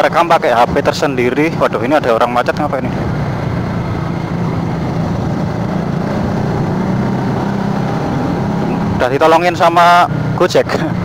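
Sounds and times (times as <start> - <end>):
motorcycle engine cruising: 0.0 - 11.0
road and wind noise: 0.0 - 11.0.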